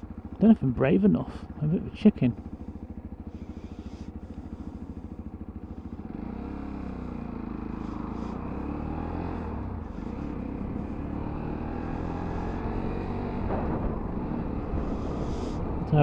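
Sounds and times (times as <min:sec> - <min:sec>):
motorcycle engine: 0:00.0 - 0:16.0.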